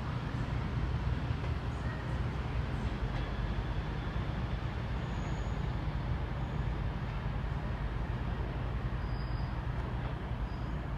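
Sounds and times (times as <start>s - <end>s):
train diesel engine rumble: 0.0s - 10.9s.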